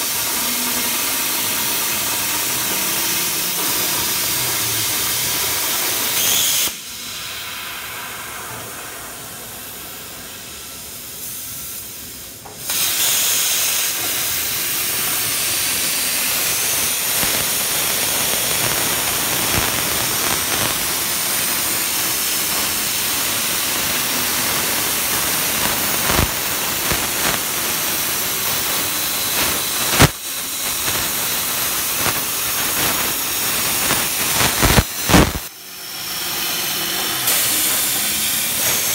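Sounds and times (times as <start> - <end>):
plasma torch hissing: 0.0 - 38.9.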